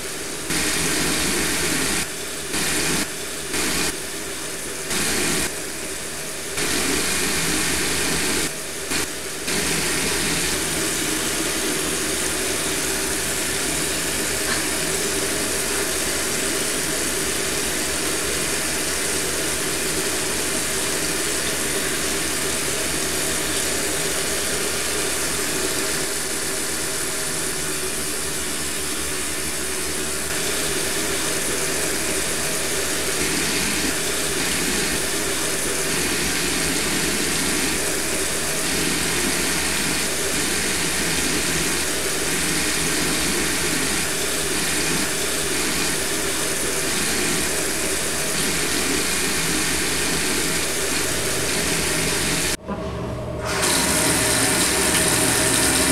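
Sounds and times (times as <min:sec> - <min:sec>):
mechanical drone with hum: 0:00.0 - 0:55.9.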